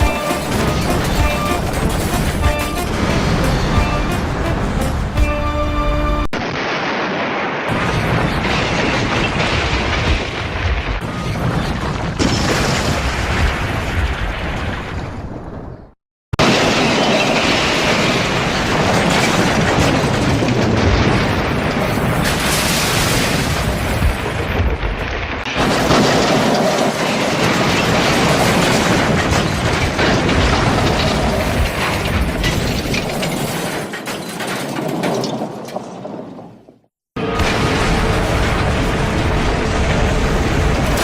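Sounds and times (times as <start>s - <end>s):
loud train crash: 0.0s - 15.2s, 16.4s - 41.0s.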